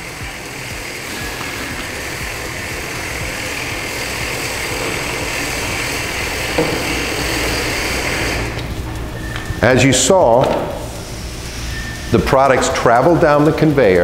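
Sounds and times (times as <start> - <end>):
labeling machine humming: 0.0 - 14.0.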